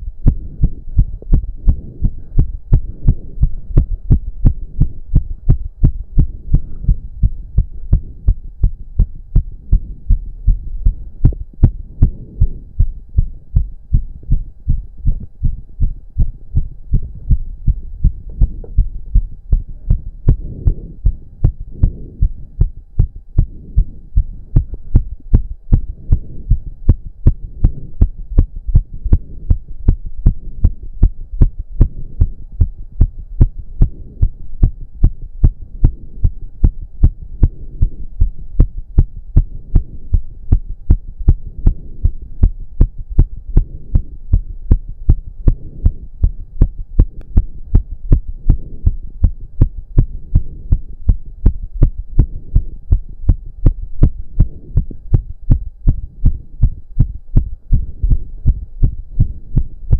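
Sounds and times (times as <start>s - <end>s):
fast pounding heartbeat: 0.0s - 59.9s.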